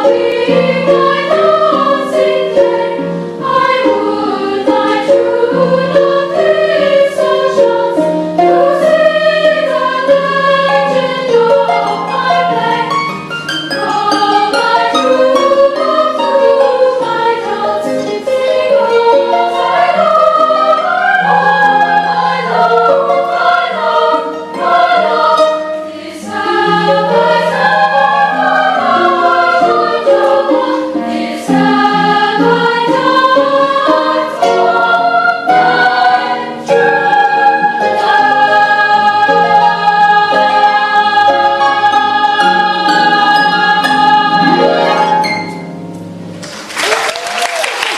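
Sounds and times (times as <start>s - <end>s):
girls' choir singing: 0.0s - 45.8s.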